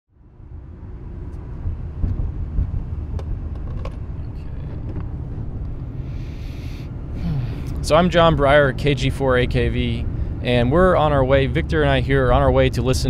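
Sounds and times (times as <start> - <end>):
car cabin road rumble: 0.2 - 13.0.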